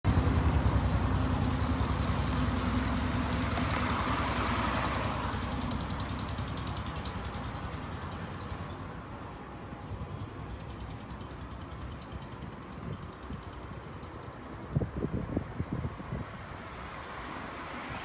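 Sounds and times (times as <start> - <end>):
diesel engine pulsing rumble: 0.1 - 16.8.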